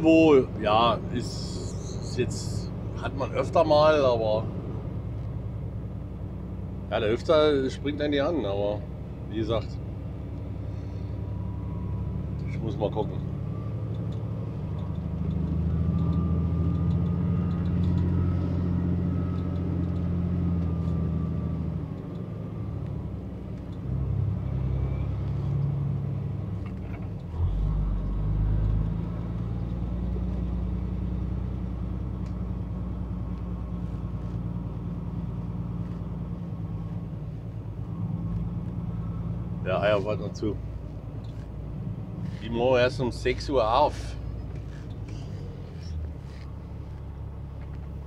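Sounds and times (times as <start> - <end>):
truck diesel engine from inside cab: 0.0 - 48.0.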